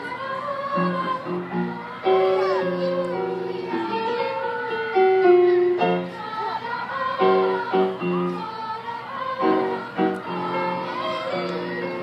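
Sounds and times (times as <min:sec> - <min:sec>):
piano chords: 0:00.0 - 0:08.5, 0:09.2 - 0:12.0
children's choir singing: 0:00.0 - 0:12.0.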